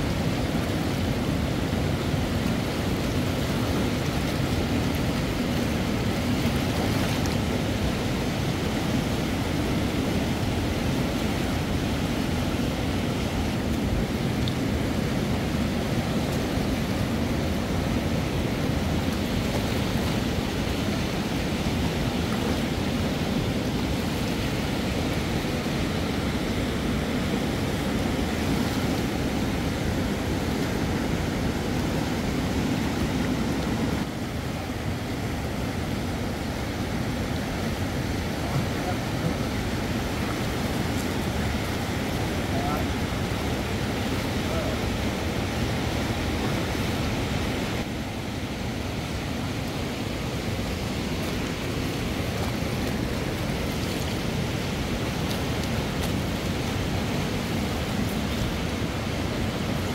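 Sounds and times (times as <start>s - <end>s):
river rushing over rapids: 0.0s - 59.9s.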